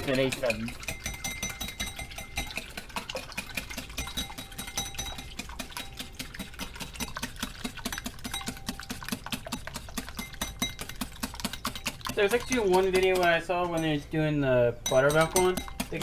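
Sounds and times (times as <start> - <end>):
wire whisk clicking against bowl: 0.1 - 14.0, 14.9 - 16.0.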